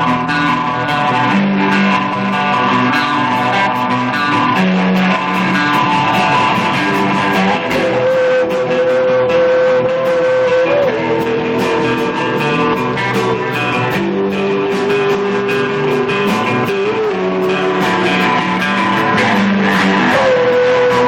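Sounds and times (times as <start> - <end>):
held guitar lead notes: 0.0 - 21.0
live rock band playing: 0.0 - 21.0.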